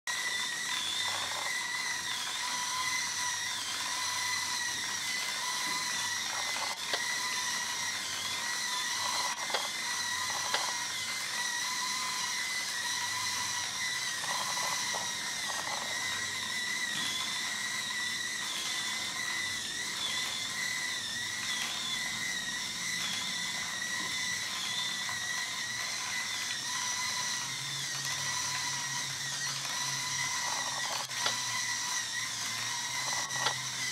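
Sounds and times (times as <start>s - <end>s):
gear motors whining: 0.1s - 33.9s.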